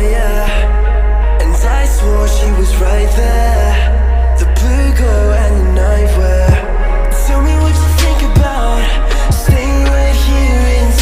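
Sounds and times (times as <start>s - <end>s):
song with heavy bass: 0.0s - 11.0s.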